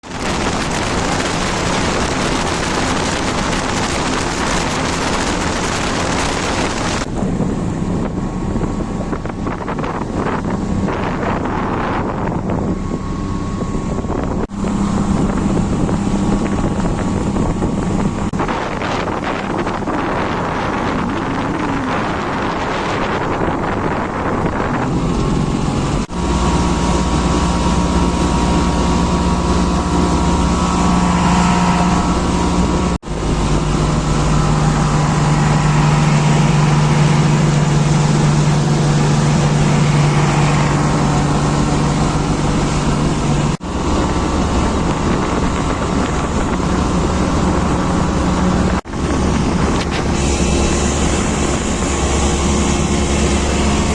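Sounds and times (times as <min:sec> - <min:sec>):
motorboat engine running: 0:00.0 - 0:53.9
wind noise on microphone: 0:00.0 - 0:53.9.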